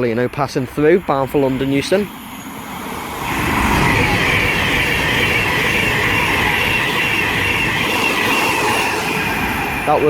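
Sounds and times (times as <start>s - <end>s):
electric train passing at speed: 0.0s - 10.0s.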